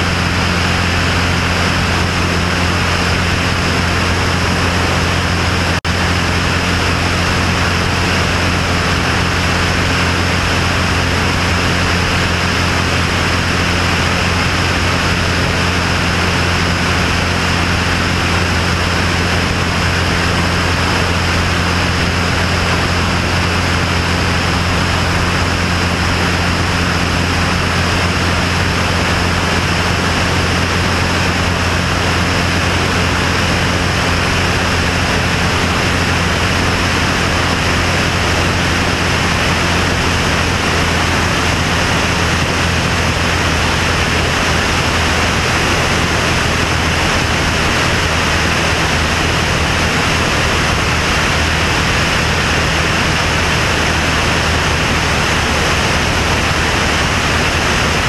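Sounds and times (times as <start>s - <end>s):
airstream noise: 0.0s - 58.0s
propeller plane engine drone: 0.0s - 58.0s.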